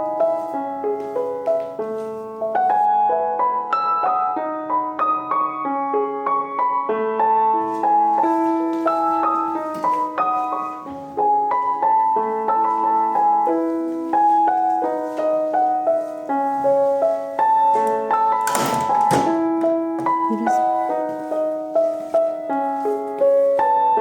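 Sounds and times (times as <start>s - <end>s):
soft piano music: 0.0s - 24.0s.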